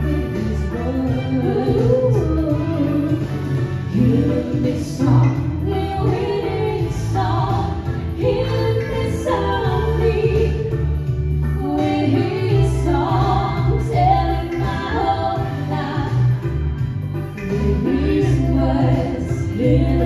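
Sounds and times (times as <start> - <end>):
instrumental accompaniment with bass: 0.0 - 20.0
women singing into microphones: 0.0 - 20.0.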